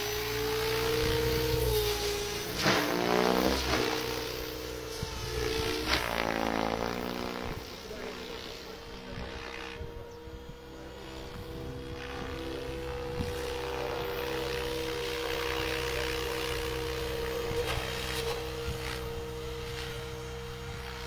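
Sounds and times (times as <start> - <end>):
helicopter flying low: 0.0 - 21.0.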